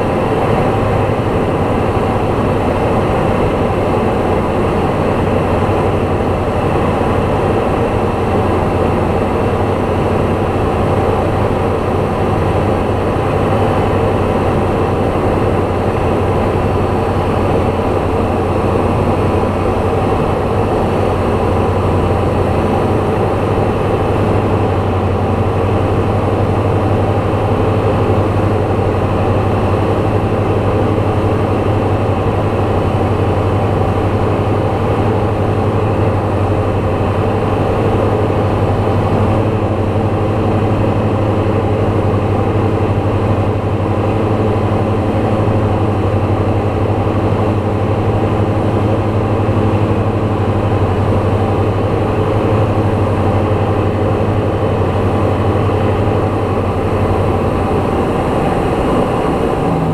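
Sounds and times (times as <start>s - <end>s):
piston aircraft engine drone: 0.0s - 59.9s.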